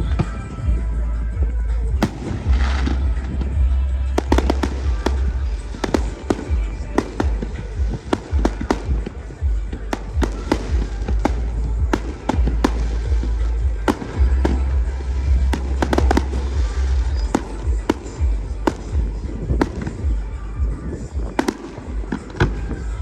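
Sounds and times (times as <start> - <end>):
continuous deep rumble: 0.0 - 23.0
fireworks bangs and cracks: 2.0 - 23.0.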